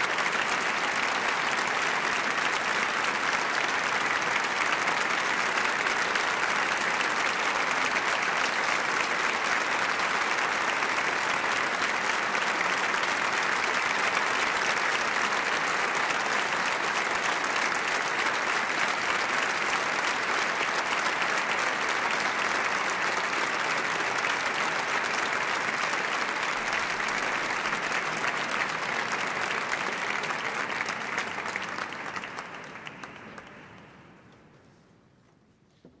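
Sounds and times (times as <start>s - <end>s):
audience applauding: 0.0s - 34.2s.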